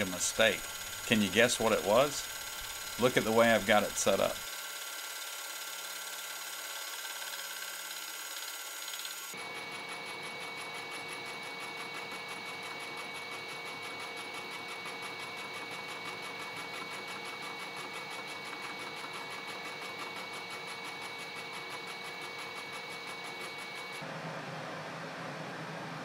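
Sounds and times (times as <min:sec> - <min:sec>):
milling machine cutting metal: 0:00.0 - 0:24.0.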